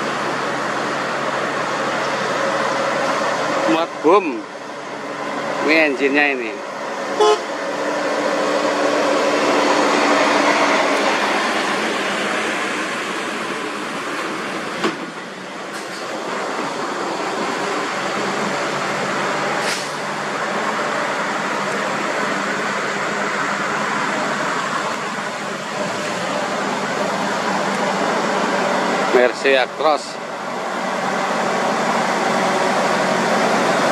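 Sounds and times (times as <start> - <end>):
diesel truck engine drone: 0.0 - 33.9
tyre and road noise: 0.0 - 33.9.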